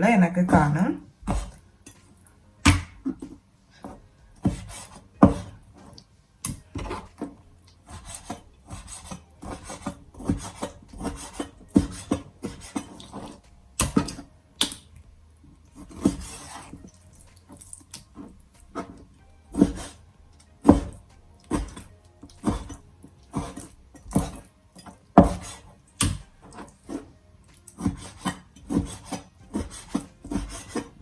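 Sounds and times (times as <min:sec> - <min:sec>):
knife scraping through meat: 0:01.2 - 0:14.9, 0:15.6 - 0:31.0.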